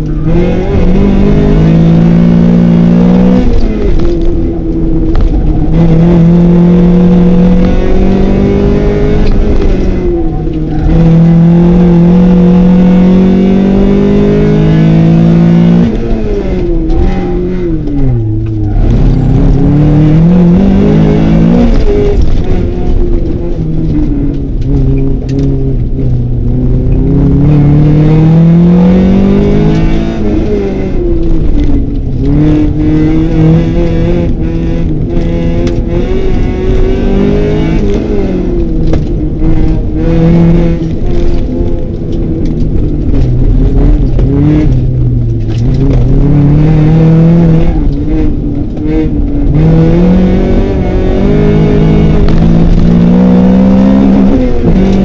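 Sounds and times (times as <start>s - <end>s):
car engine accelerating hard: 0.0s - 55.0s.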